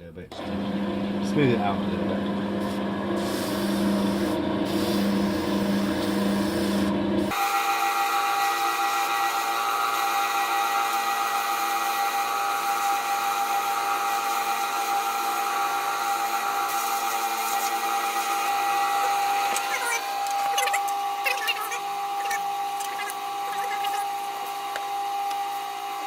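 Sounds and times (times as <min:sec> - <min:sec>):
wood lathe whining: 0:00.4 - 0:26.0.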